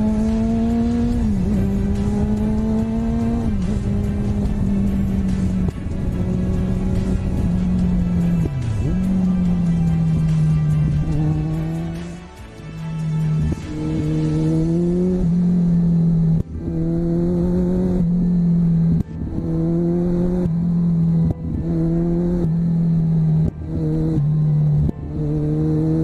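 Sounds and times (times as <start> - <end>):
motorcycle engine under throttle: 0.0 - 12.2, 13.3 - 26.0.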